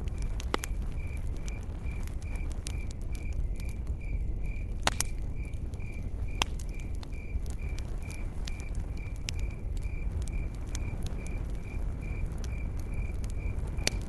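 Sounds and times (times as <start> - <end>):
burning stump crackling and popping: 0.0 - 14.0.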